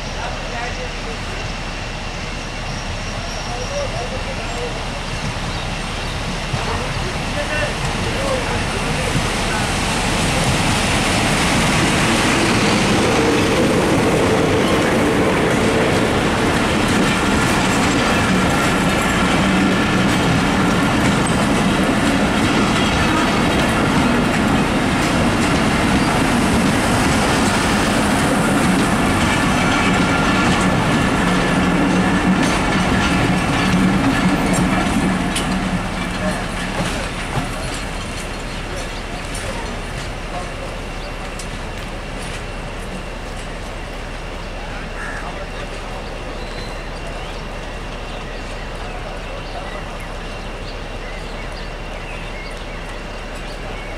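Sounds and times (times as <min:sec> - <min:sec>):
diesel locomotive passing: 0:00.0 - 0:53.9
train coaches rumbling: 0:00.0 - 0:53.9
wheels clacking over rail joints: 0:03.5 - 0:53.9.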